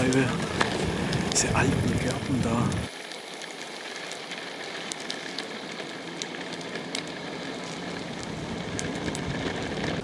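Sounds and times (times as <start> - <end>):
board wheels rolling on asphalt: 0.0 - 10.0
grit clicks under wheels: 0.0 - 10.0.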